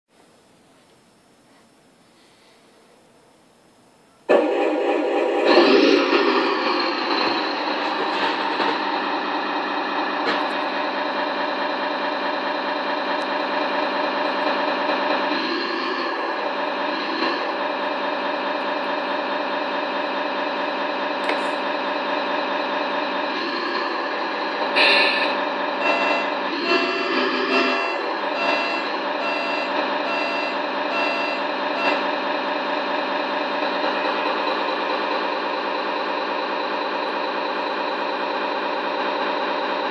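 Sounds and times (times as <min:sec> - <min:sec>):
truck engine idle sound: 0:04.2 - 0:39.9.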